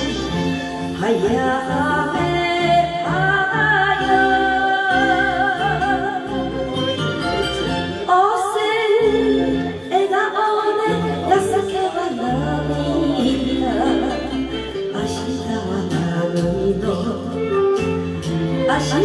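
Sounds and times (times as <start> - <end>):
woman singing into microphone: 0.0 - 6.9, 8.0 - 19.0
karaoke backing track: 0.0 - 19.0.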